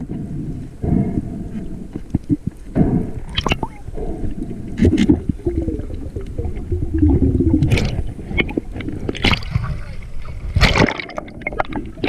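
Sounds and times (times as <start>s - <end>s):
underwater rumble of moving water: 0.0s - 12.0s.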